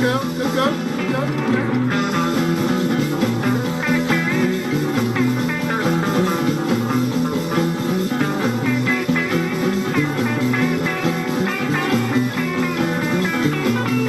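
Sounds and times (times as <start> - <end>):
lead guitar bending notes: 0.0 - 14.0
steady bass line: 0.0 - 14.0.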